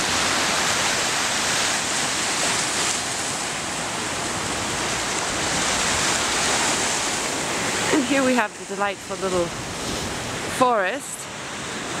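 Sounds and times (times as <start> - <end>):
sea water washing at shore: 0.0 - 12.0.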